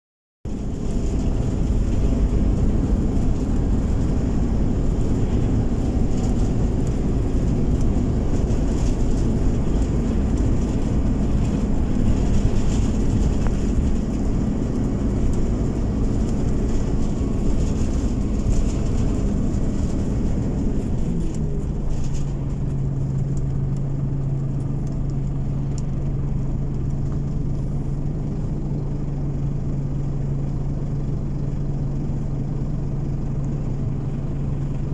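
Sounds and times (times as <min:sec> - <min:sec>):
bus engine hum: 0:00.5 - 0:34.9.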